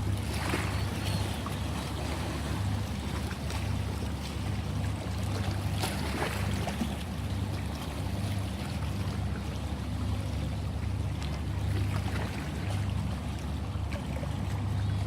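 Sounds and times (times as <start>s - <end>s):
sea waves washing in: 0.0s - 15.0s
splashes of waves: 0.0s - 15.0s.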